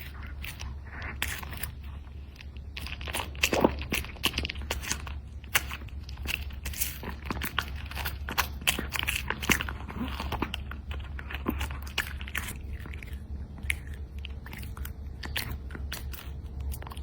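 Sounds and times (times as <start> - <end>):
dog chewing wet crunches: 0.0 - 17.0.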